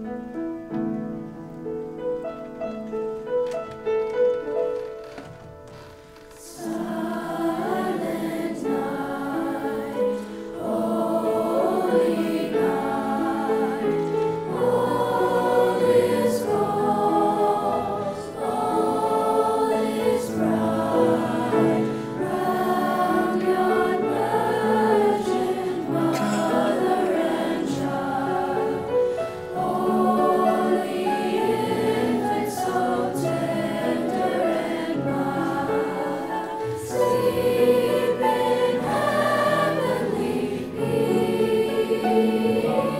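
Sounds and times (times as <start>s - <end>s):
chorus singing in harmony: 6.4s - 42.9s.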